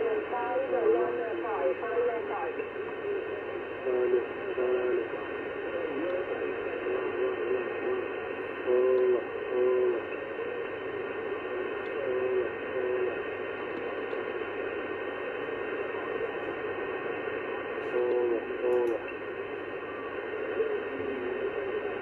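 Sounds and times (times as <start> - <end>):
radio band noise hiss: 0.0 - 22.0
weak garbled radio voices: 0.0 - 22.0.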